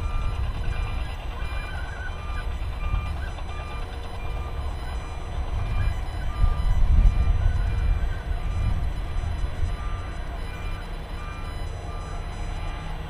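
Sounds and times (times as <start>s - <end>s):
backup alarm beeping: 0.0s - 13.0s
milling machine diesel rumble: 0.0s - 13.0s.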